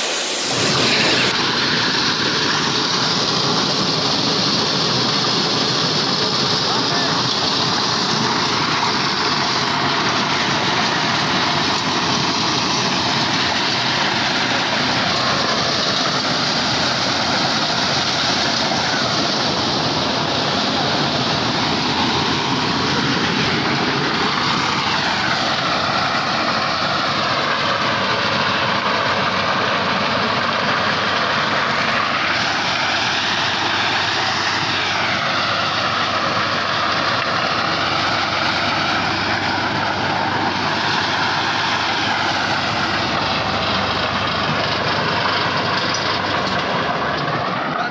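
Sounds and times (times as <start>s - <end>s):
thresher mechanical drone: 0.0s - 47.9s.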